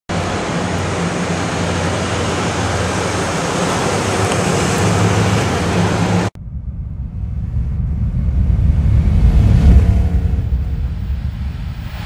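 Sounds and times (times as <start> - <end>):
car engine drone: 0.1 - 12.0
loud rushing noise: 0.1 - 12.0.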